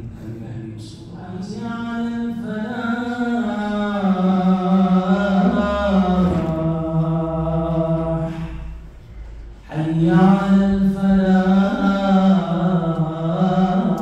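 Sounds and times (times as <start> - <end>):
man chanting through microphone: 0.0 - 9.0, 9.6 - 14.0.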